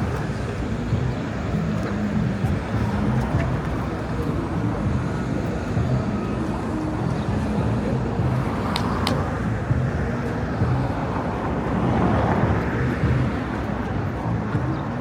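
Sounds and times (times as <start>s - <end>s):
rumble of passing cars: 0.0s - 15.0s.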